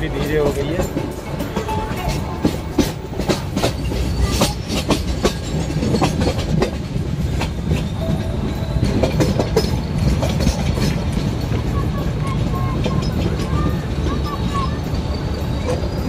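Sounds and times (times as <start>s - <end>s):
low train rumble: 0.0s - 16.0s
train wheels clacking over rail joints: 0.0s - 16.0s.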